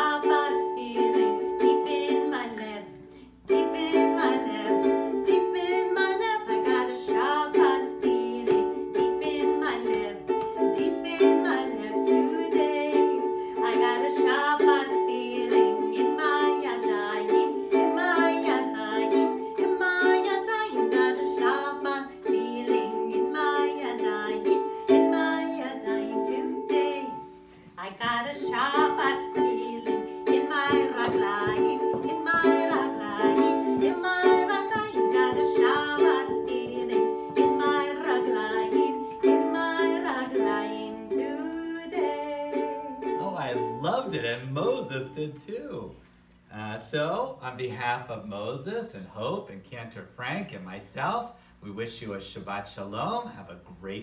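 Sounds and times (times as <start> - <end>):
person singing: 0.0 - 45.6
ukulele strumming: 0.0 - 46.0.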